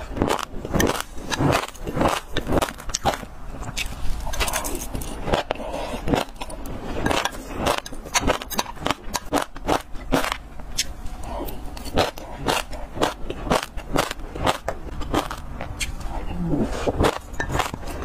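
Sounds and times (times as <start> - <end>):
chewing crunchy seeds: 0.0 - 18.0.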